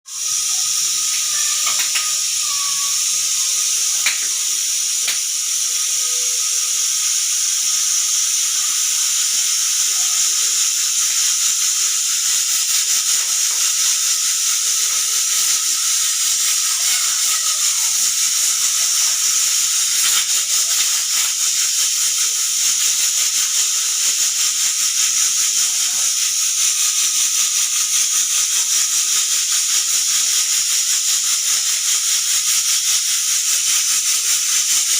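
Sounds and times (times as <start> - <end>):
pressure cooker whistle hissing: 0.1 - 34.9.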